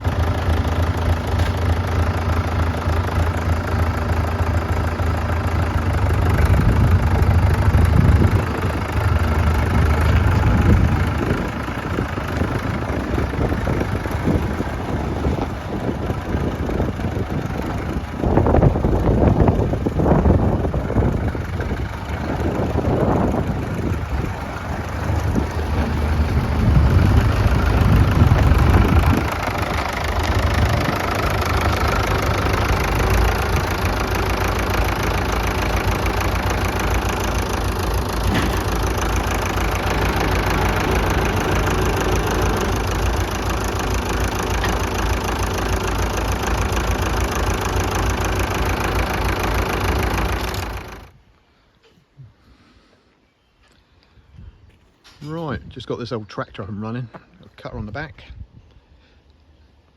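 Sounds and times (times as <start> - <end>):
tractor engine running: 0.0 - 51.6.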